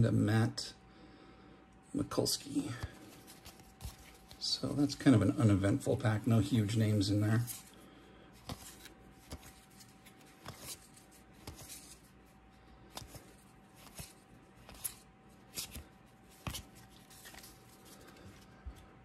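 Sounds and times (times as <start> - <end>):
faint steady hum: 0.0 - 19.0
cards being flipped: 2.6 - 18.9.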